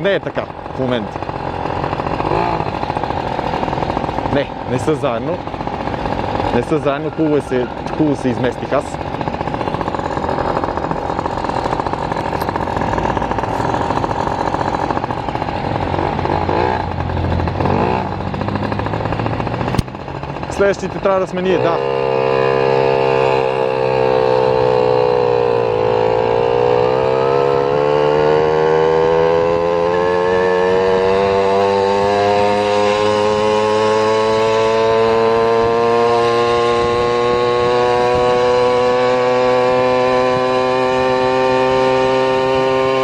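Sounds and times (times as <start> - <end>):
vehicle engine accelerating: 0.0 - 43.0.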